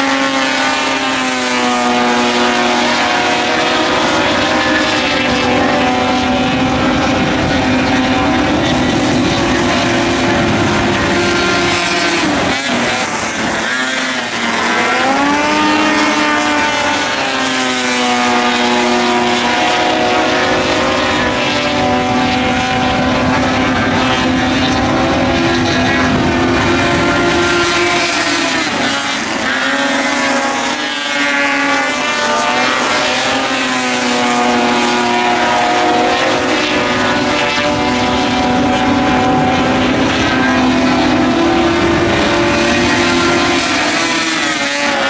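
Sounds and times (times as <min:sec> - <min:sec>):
race car engines running hard: 0:00.0 - 0:45.0.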